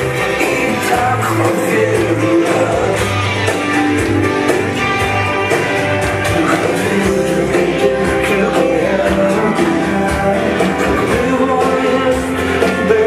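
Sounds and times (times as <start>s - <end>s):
lively guitar music with beat: 0.0s - 13.0s.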